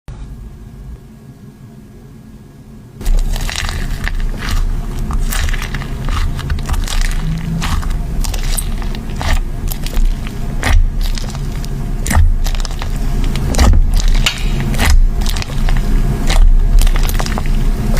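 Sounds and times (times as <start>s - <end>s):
slime squishing with crackling pops: 3.0s - 17.7s.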